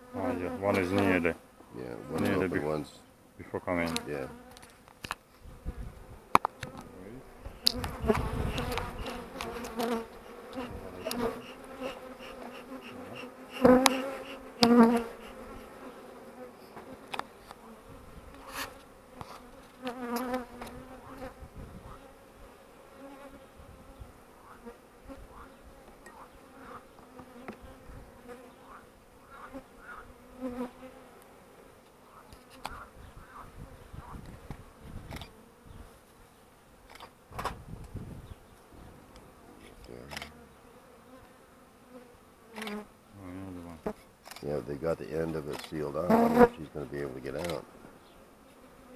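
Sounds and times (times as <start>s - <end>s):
honeybees buzzing: 0.0s - 48.9s.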